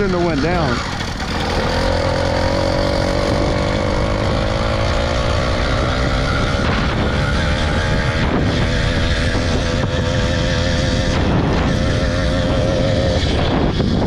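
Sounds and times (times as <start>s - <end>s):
motorized bike engine droning: 0.0s - 14.0s.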